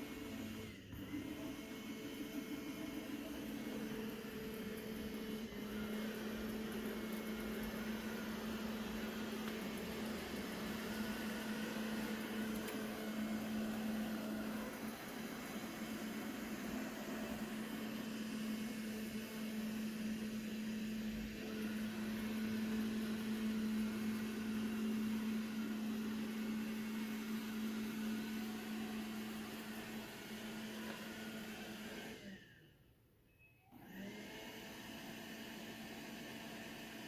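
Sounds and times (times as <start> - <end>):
robot vacuum whirring: 0.0 - 32.5.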